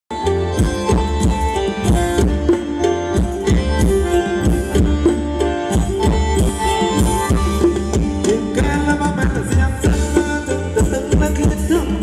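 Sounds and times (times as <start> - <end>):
band playing dance music: 0.1 - 12.0.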